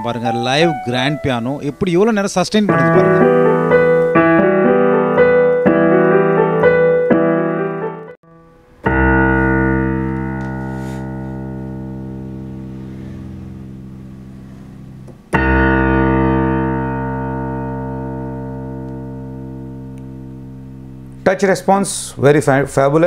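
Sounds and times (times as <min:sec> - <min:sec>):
piano notes and chords: 0:00.0 - 0:23.0.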